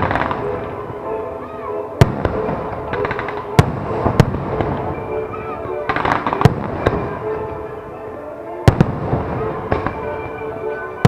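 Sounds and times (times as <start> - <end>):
fireworks booming: 0.0 - 1.0, 2.0 - 7.8, 8.5 - 11.0
fireworks crackling: 0.0 - 11.0
music with held notes: 0.0 - 11.0.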